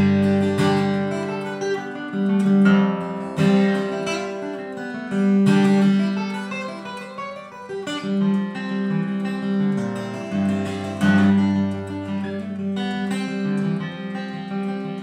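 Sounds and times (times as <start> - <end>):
acoustic guitar playing bluegrass: 0.0 - 15.0.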